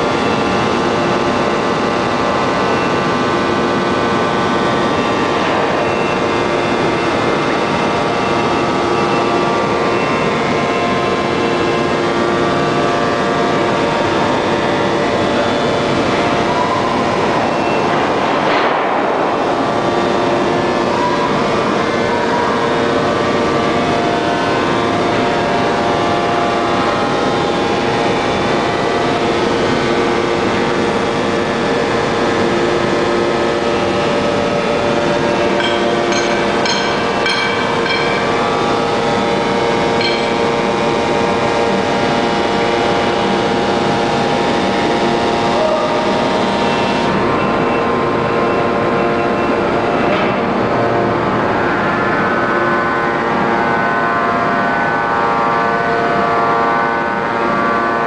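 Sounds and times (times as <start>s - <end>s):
forging press industrial din: 0.0s - 52.6s.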